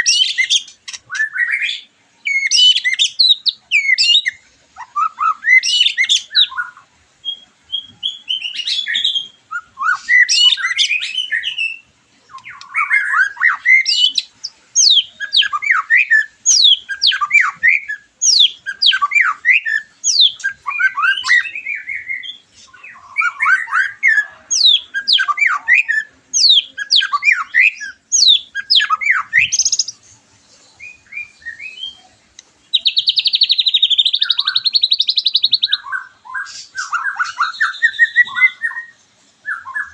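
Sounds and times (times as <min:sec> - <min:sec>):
songbird singing whistles and trills: 0:00.0 - 0:30.0, 0:30.6 - 0:39.9.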